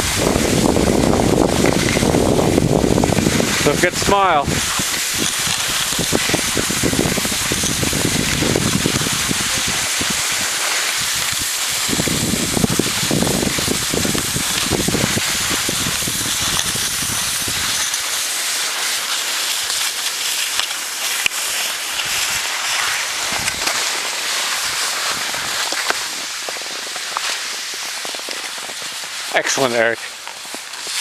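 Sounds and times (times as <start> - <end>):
skis sliding over snow: 0.0 - 31.0.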